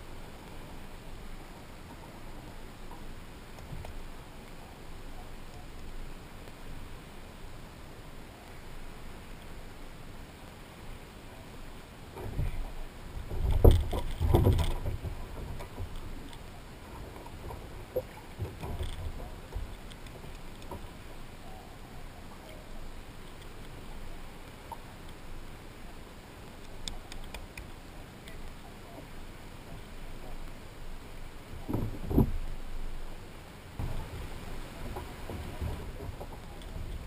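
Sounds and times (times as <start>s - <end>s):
water around hull: 0.0s - 37.0s.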